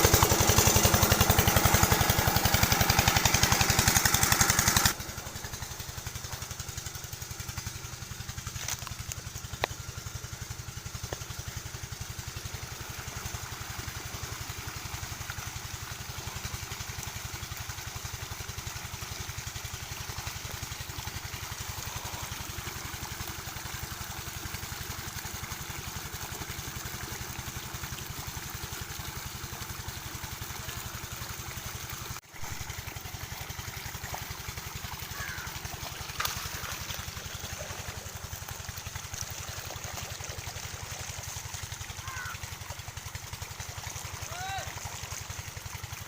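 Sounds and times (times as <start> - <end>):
diesel water pump engine running: 0.0 - 46.0.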